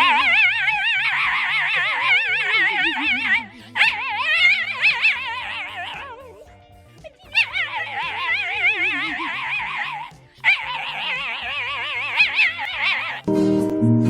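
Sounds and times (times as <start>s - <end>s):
dog howling: 0.0s - 13.3s.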